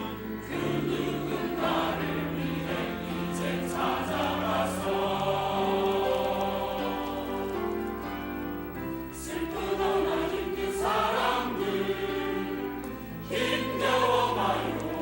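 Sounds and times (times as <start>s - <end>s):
choir accompaniment: 0.0s - 15.0s
church choir singing: 0.0s - 15.0s.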